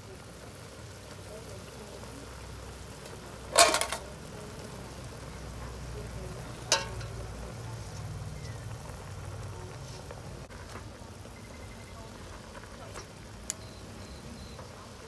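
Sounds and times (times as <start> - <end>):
broth bubbling: 0.0 - 15.0.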